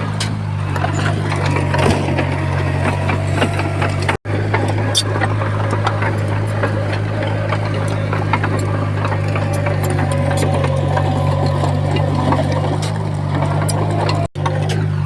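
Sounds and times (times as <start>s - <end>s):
heavy diesel engine running: 0.0s - 15.0s
light clicks and clanks: 0.2s - 15.0s.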